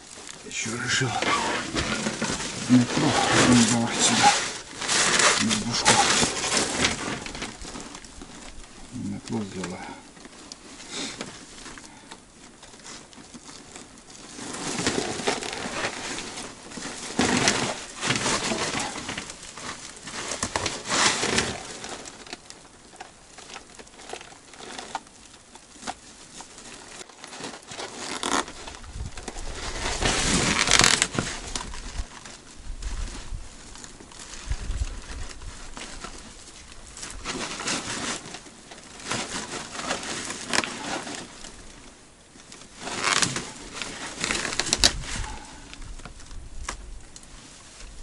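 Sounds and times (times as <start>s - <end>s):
crunching and rustling: 0.0s - 48.0s.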